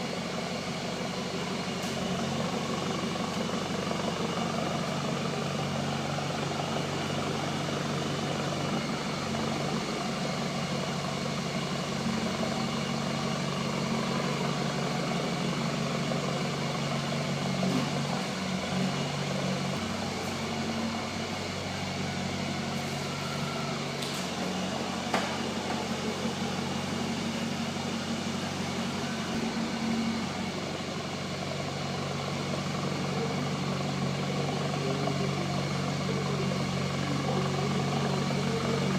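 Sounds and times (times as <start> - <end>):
pickup engine idling: 0.0 - 38.9.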